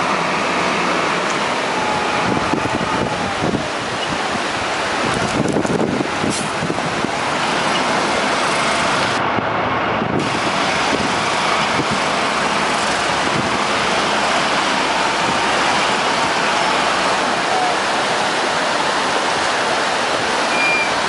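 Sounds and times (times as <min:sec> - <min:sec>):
diesel engine running: 0:00.0 - 0:21.0
loud rushing noise: 0:00.0 - 0:21.0.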